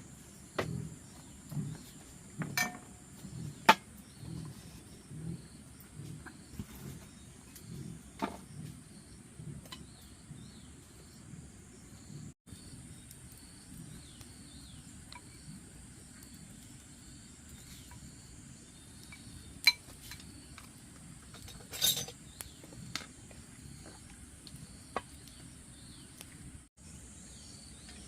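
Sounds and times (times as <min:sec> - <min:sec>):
insect chirring: 0:04.9 - 0:28.0.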